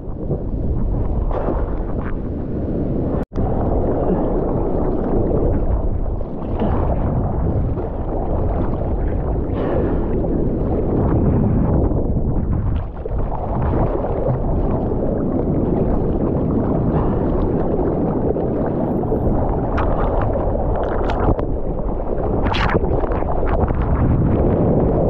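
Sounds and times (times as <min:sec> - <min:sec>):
water rushing and churning: 0:00.0 - 0:25.0
water splashes: 0:00.0 - 0:25.0.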